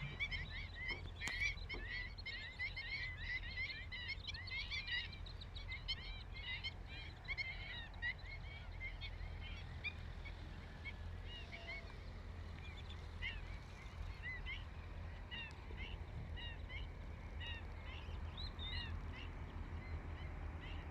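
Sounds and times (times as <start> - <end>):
birds chirping: 0.0 - 20.9
steady low rumble: 0.0 - 20.9.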